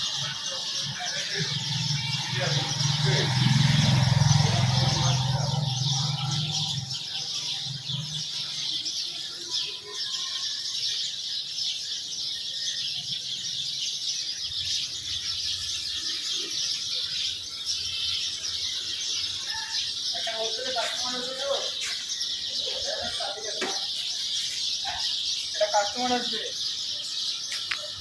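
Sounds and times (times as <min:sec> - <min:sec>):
sparrows chirping: 0:00.0 - 0:28.0.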